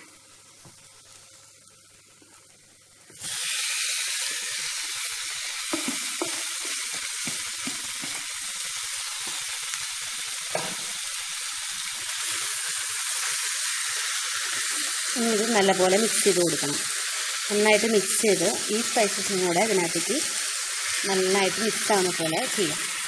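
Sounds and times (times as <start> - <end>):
chicken sizzling in a pan: 0.0 - 23.0.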